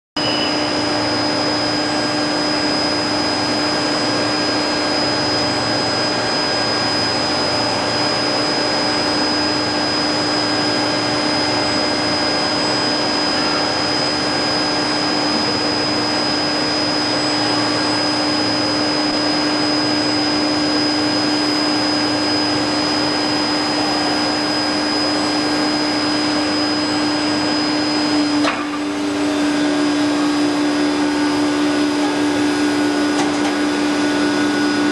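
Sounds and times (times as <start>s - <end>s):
faint high whine: 0.2s - 34.9s
low hum: 0.2s - 34.9s.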